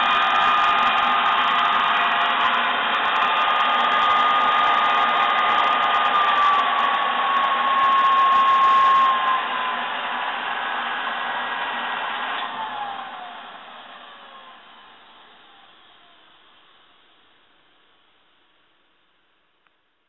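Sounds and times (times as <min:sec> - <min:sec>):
vacuum cleaner whirring with whine: 0:00.0 - 0:19.2.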